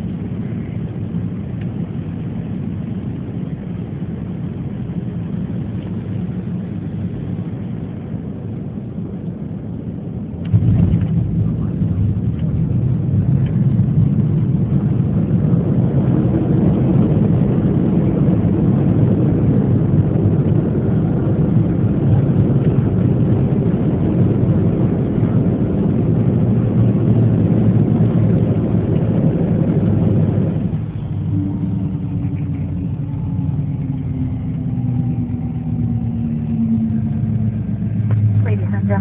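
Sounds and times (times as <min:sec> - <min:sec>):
jet engine noise in cabin: 0:00.0 - 0:39.0
wheels rumbling on runway: 0:00.0 - 0:39.0.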